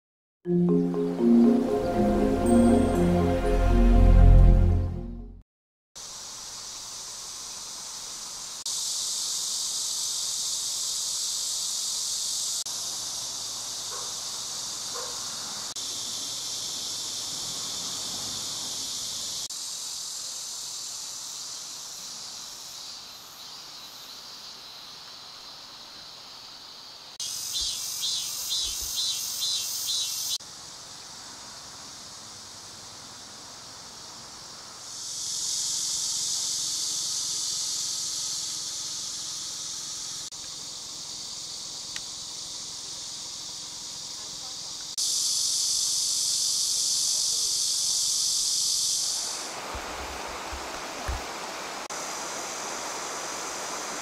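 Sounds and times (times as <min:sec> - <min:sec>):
pulsing insect call: 0:00.5 - 0:05.0, 0:06.0 - 0:54.0
high-pitched insect chorus: 0:06.0 - 0:54.0.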